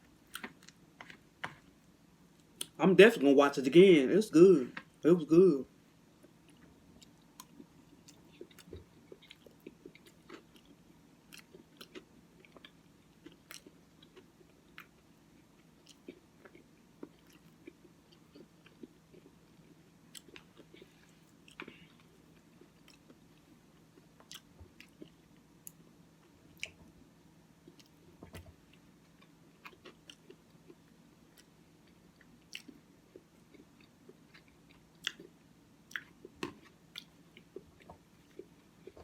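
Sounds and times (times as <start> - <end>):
close-up chewing: 6.2 - 26.9, 27.6 - 39.0.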